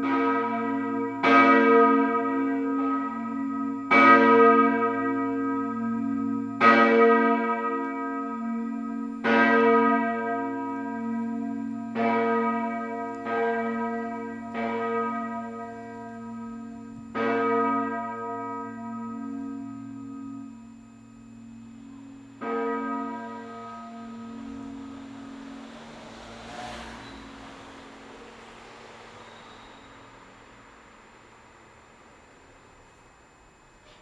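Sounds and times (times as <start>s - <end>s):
church bell ringing: 0.0s - 31.6s.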